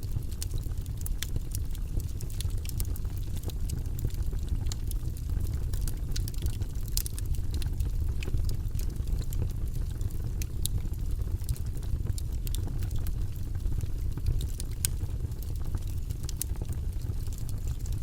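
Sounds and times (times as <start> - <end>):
campfire crackling and popping: 0.0 - 18.0
low fire rumble: 0.0 - 18.0.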